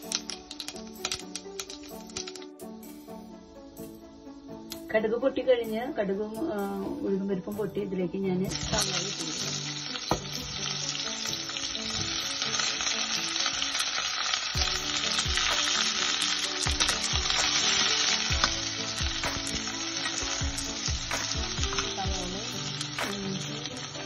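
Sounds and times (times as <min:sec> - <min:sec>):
onions sizzling in oil: 0:00.0 - 0:07.2, 0:07.9 - 0:24.0.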